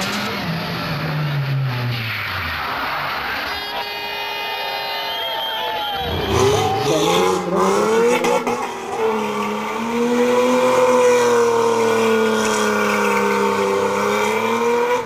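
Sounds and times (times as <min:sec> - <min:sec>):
rally car engine revving: 0:00.0 - 0:03.8, 0:05.9 - 0:15.0.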